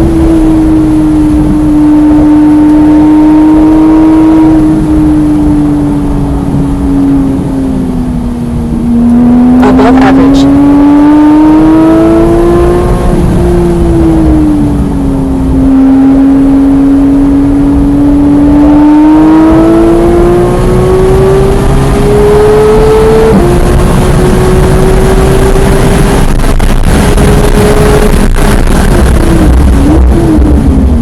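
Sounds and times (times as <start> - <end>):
sports car engine revving: 0.0 - 31.0.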